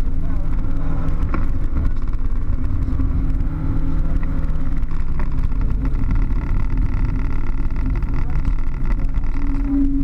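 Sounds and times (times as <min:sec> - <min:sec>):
car engine running: 0:00.0 - 0:10.0
road and wind rumble: 0:00.0 - 0:10.0.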